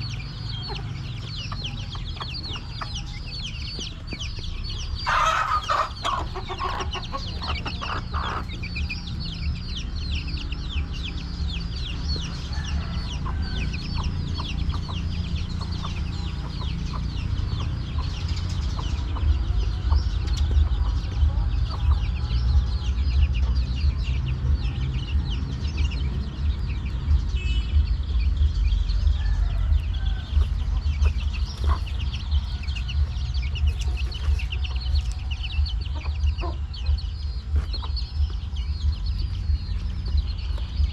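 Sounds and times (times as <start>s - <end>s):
chickens peeping: 0.0s - 40.9s
low rumble: 0.0s - 40.9s.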